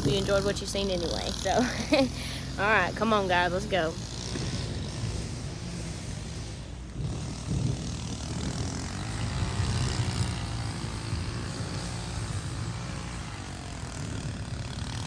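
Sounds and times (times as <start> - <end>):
lawn mower engine droning: 0.0 - 15.0.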